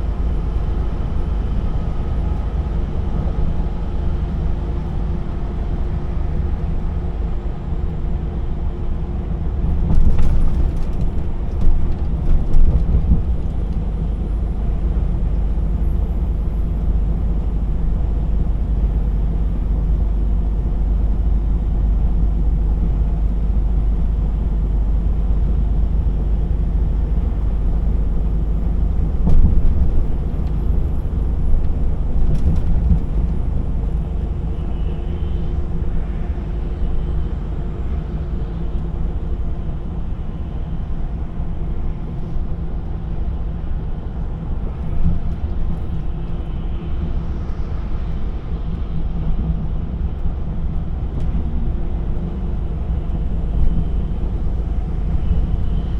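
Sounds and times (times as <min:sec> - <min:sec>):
road and tyre noise: 0:00.0 - 0:55.9
truck diesel engine drone: 0:00.0 - 0:55.9.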